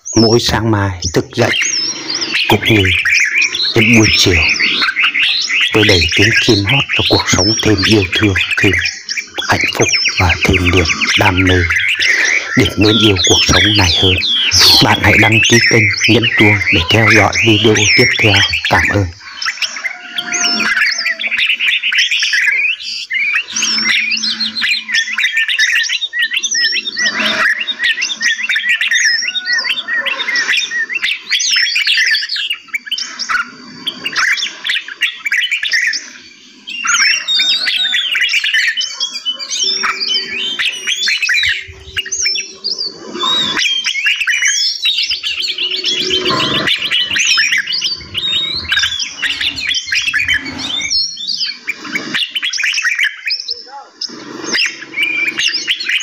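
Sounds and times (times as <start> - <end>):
caged birds chirping and singing: 0.0 - 56.0.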